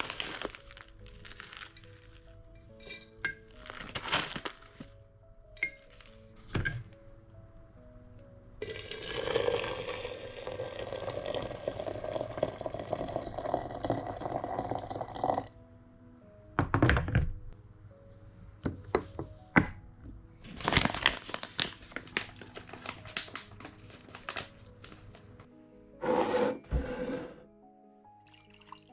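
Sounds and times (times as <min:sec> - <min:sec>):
soft background music: 0:00.0 - 0:28.9.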